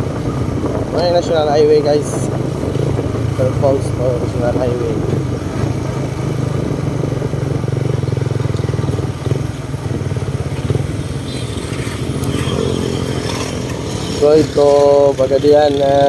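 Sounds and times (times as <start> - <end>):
motorcycle engine running: 0.0 - 16.0
road noise: 0.0 - 16.0
wind rush: 0.0 - 16.0.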